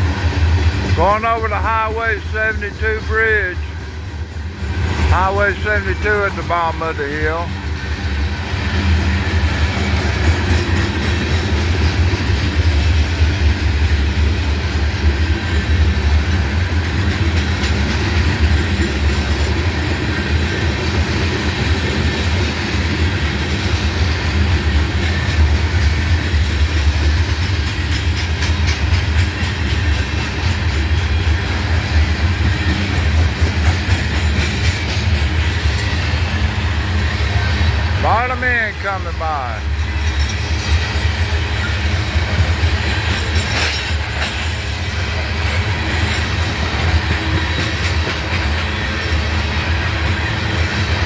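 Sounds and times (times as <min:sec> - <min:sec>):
freight train wheels rumbling: 0:00.0 - 0:51.0
wheels clicking over rail joints: 0:07.5 - 0:38.4, 0:39.6 - 0:51.0.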